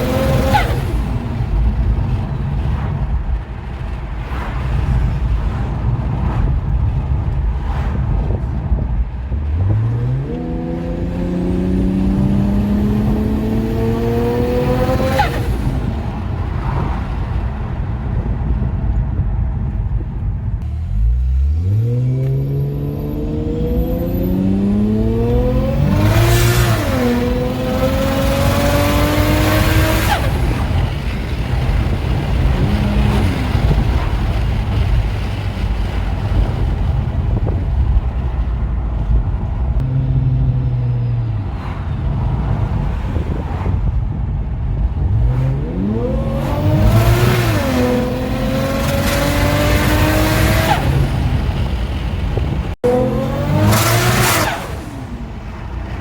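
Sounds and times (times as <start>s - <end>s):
car engine accelerating hard: 0.0s - 18.0s, 20.6s - 56.0s.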